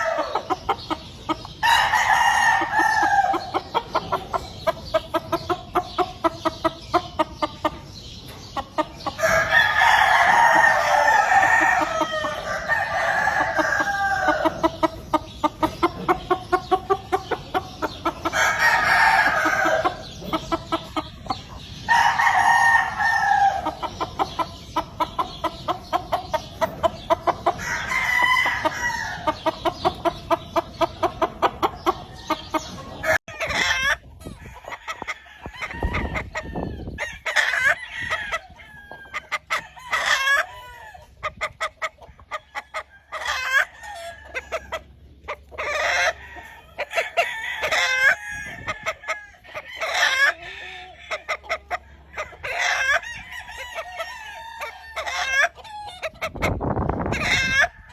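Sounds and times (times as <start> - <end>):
chickens clucking: 0.0 - 57.9
roosters crowing: 0.0 - 57.9.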